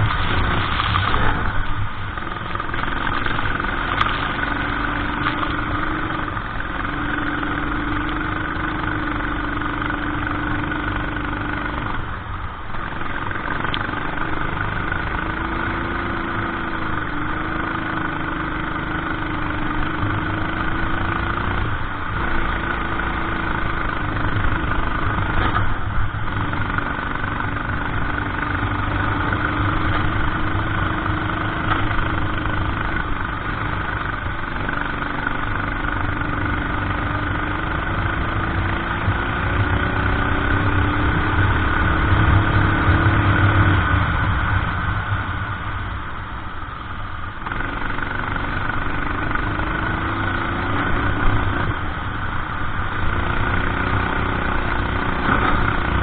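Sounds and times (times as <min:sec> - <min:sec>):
racing kart engine running: 0:00.0 - 0:56.0.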